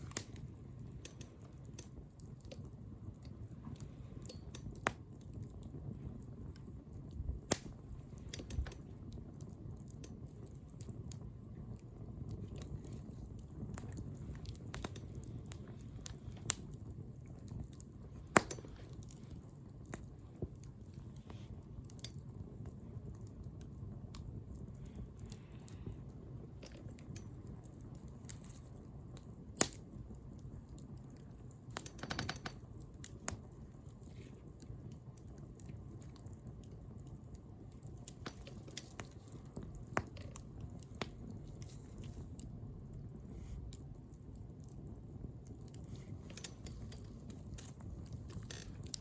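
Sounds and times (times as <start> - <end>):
bonfire flames rumbling: 0.0 - 49.0
wood crackling and popping: 0.0 - 49.0.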